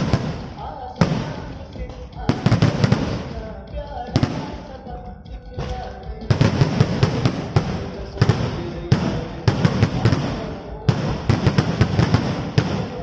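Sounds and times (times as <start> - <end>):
fireworks bangs and crackles: 0.0 - 4.8, 5.6 - 13.0.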